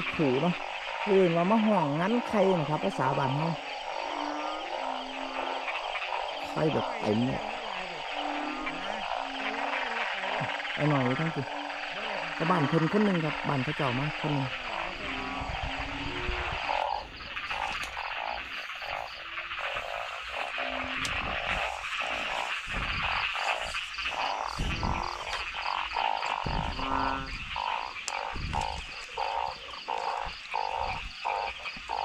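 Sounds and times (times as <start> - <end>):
frogs croaking: 0.0 - 32.0.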